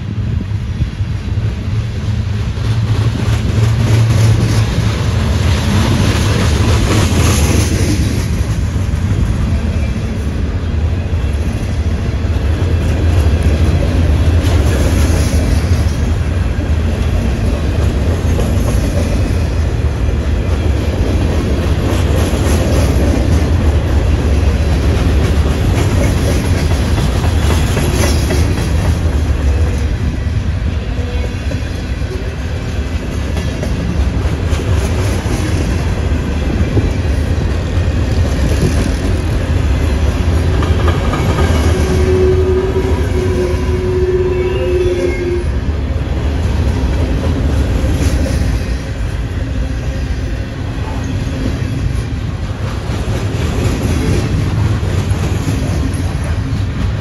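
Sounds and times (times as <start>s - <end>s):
freight train rolling past: 0.0s - 57.0s
steel wheels clattering on rails: 2.1s - 10.4s, 11.3s - 44.1s, 50.6s - 57.0s.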